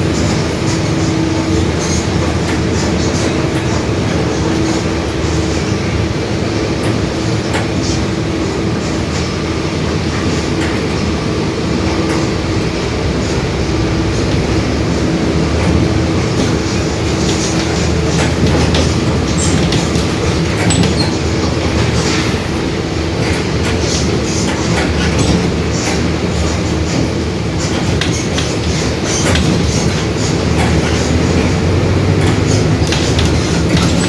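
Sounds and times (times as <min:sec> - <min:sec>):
bus diesel engine droning: 0:00.0 - 0:34.0.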